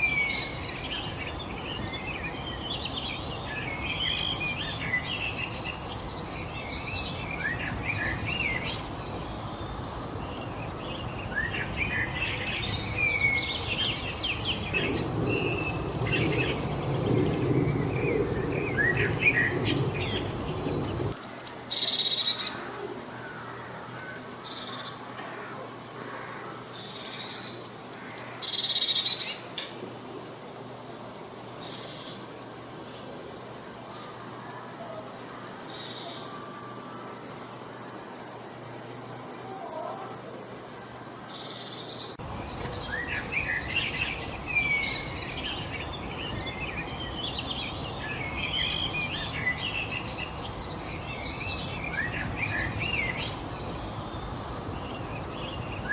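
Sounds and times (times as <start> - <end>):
background hiss: 0.0 - 55.9
songbirds chirping and trilling: 0.0 - 55.9.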